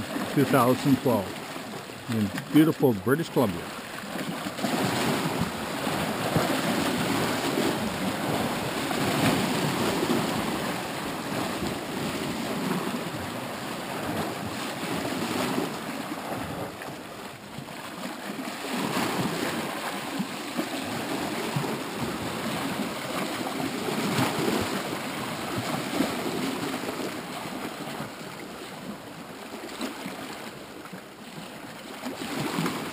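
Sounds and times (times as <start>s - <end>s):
waves lapping against rocks: 0.0s - 32.9s.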